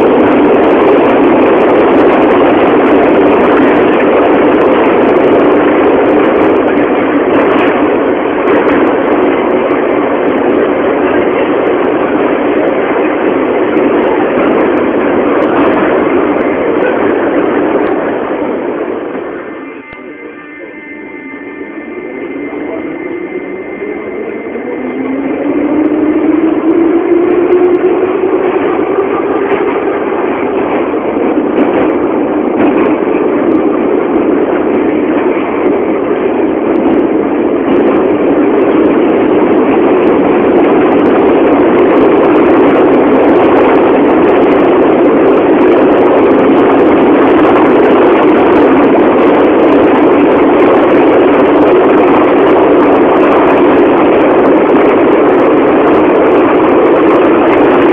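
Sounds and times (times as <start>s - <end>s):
subway train running: 0.0s - 57.9s.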